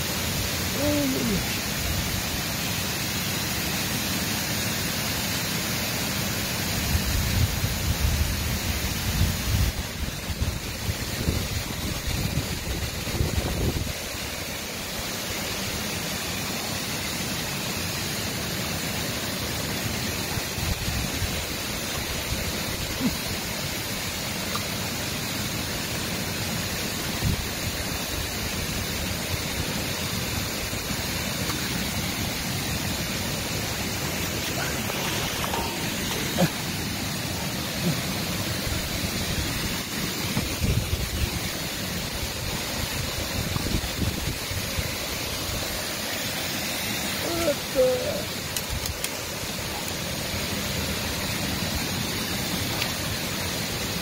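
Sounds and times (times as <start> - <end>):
water rushing over a weir: 0.0 - 54.0.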